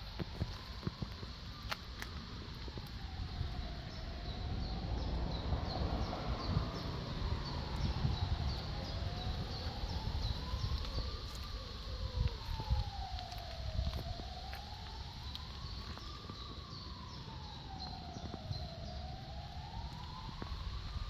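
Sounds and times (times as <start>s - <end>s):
siren wailing: 0.0s - 21.0s
steady low rumble: 0.0s - 21.0s.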